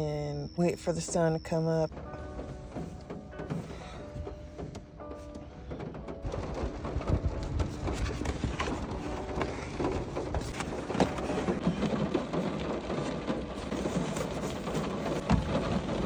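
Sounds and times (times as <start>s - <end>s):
rain pattering on a car: 0.8s - 16.0s.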